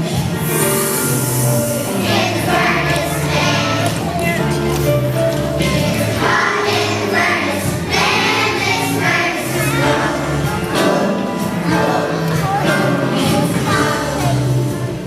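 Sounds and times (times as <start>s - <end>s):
children's choir singing: 0.0s - 15.0s
musical accompaniment: 0.0s - 15.0s.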